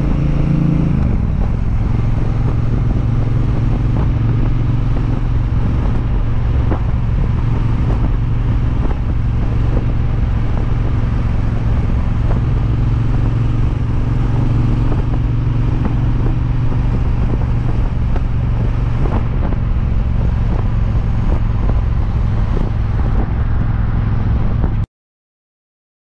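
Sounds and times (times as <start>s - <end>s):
motorcycle engine cruising: 0.0s - 24.9s.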